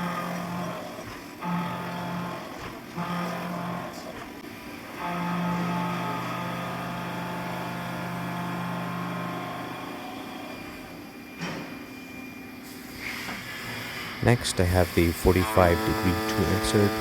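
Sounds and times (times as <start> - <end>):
milling machine cutting metal: 0.0 - 11.0, 13.2 - 17.0.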